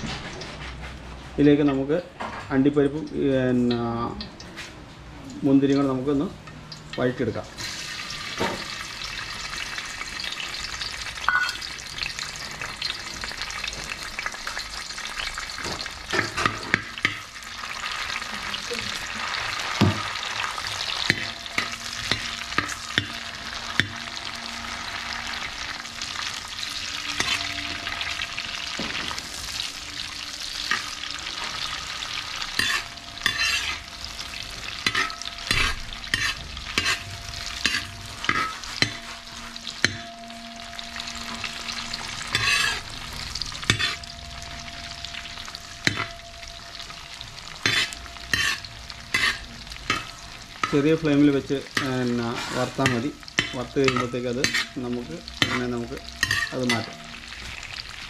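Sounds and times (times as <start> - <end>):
nuts sizzling in hot fat: 5.7 - 58.0
metal ladle scraping a pan: 7.6 - 58.0.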